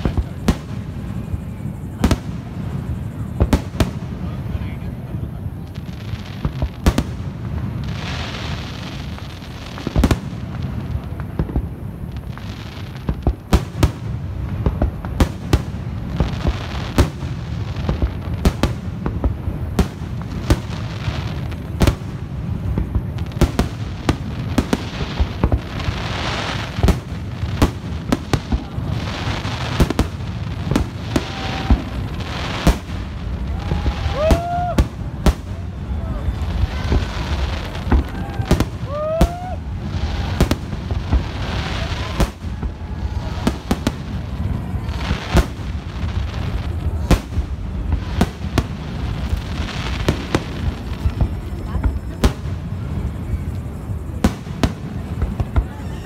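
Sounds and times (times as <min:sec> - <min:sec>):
fireworks bangs: 0:00.0 - 0:56.0.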